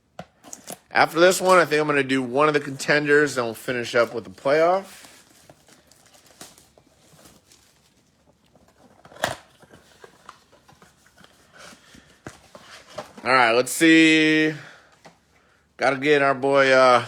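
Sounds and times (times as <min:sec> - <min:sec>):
card packs rustling and crackling: 0:00.3 - 0:15.3.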